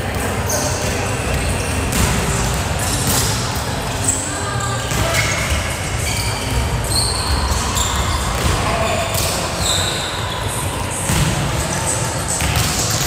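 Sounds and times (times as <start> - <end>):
players' voices: 0.0 - 13.0
sneaker squeaks: 0.0 - 13.0.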